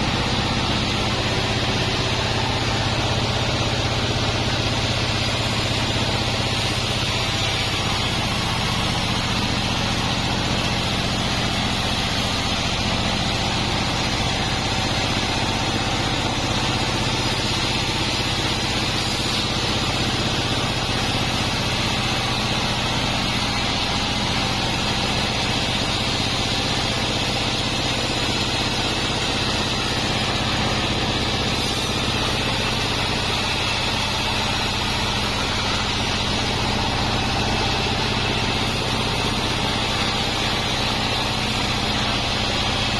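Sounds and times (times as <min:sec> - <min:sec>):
band saw motor hum: 0:00.0 - 0:42.9
saw blade hiss: 0:00.0 - 0:42.9.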